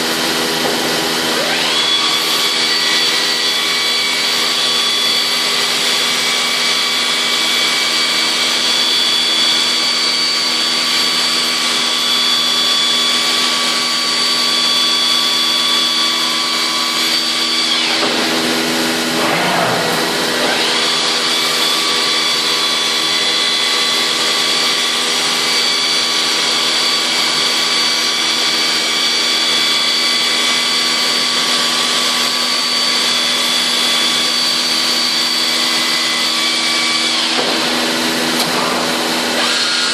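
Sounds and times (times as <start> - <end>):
router whining: 0.0 - 39.9.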